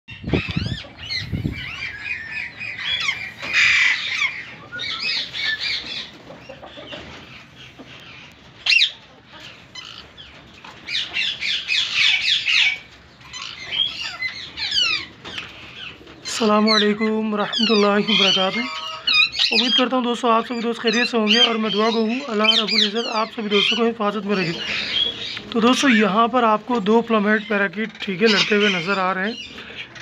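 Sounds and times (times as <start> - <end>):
parakeets chirping and squawking: 0.1 - 30.0.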